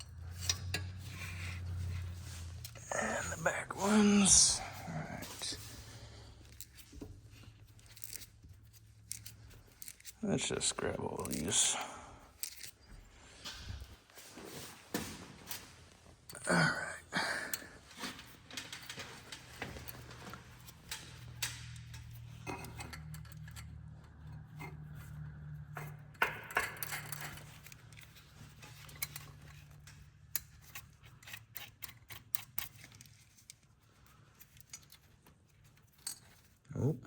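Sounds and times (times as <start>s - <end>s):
metal tools clinking: 0.0s - 13.0s, 17.4s - 36.6s.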